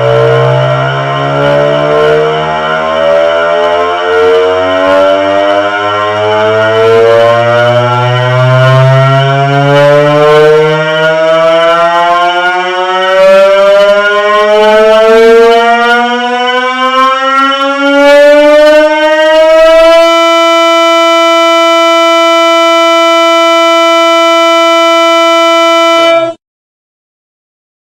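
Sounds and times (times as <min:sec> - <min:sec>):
rising continuous synthetic tone: 0:00.0 - 0:26.4.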